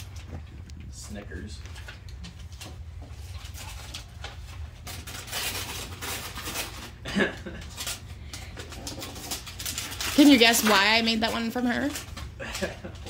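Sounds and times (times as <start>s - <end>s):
gift wrap rustling: 0.0s - 13.0s.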